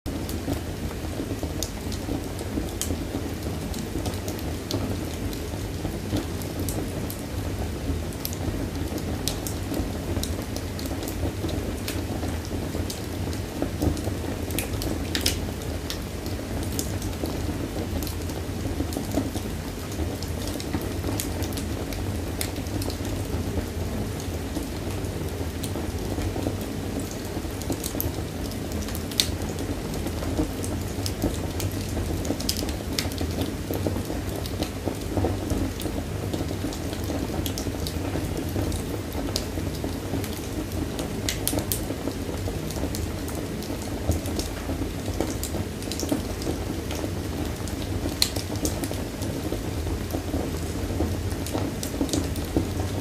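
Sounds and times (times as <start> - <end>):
wood fire crackling: 0.1 - 53.0.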